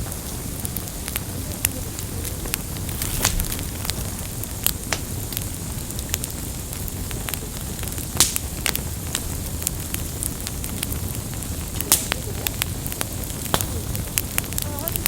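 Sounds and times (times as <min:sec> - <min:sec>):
rumble of campfire flames: 0:00.0 - 0:15.0
wood crackling and popping: 0:00.0 - 0:15.0.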